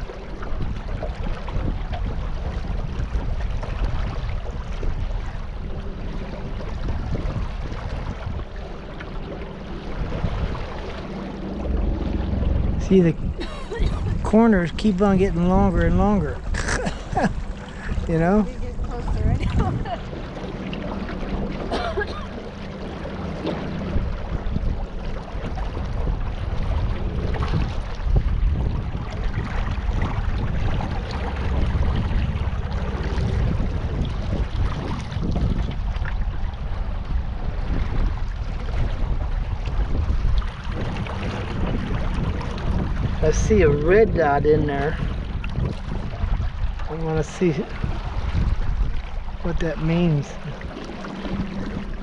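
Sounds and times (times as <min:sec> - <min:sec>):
boat low hum: 0:00.0 - 0:52.0
water washing: 0:00.0 - 0:52.0
wind buffeting microphone: 0:00.0 - 0:52.0.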